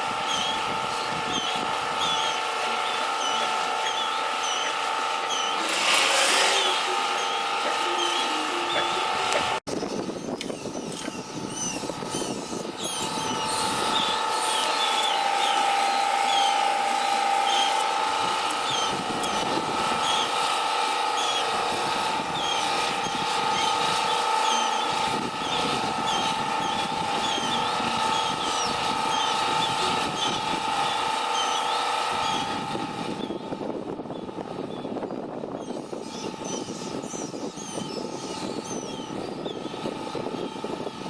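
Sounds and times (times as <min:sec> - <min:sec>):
steady machine hum: 0:00.0 - 0:41.0
wind on microphone: 0:00.0 - 0:41.0
small birds chirping: 0:00.2 - 0:05.6, 0:06.6 - 0:09.1, 0:09.7 - 0:20.4, 0:22.2 - 0:32.6, 0:33.2 - 0:41.0.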